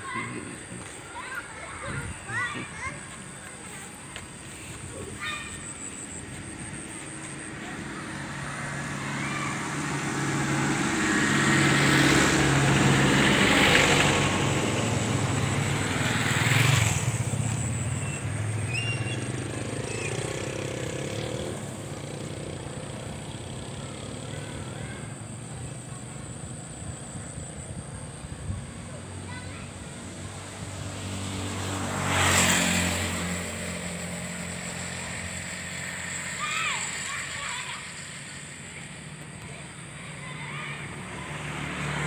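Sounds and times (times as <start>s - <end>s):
engine hum and tyre noise: 0.0s - 42.0s
vehicles passing by: 0.0s - 42.0s.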